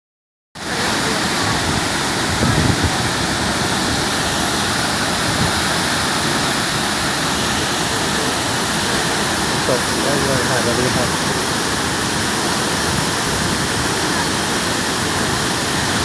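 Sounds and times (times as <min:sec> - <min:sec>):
waterfall pouring: 0:00.6 - 0:16.0.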